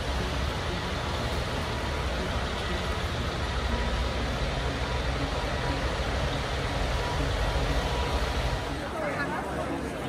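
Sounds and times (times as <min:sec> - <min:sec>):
vehicle rumble with hiss: 0:00.0 - 0:10.0.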